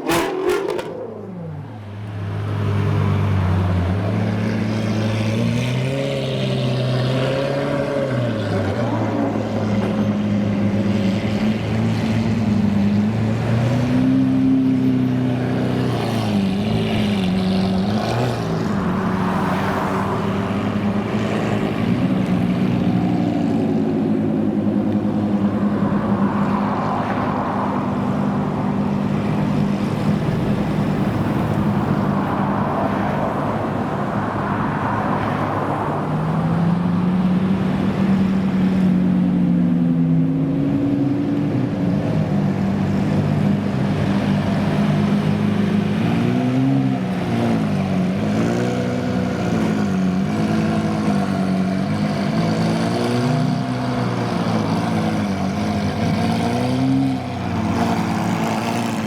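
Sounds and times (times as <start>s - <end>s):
sports car engines revving: 0.0s - 59.0s.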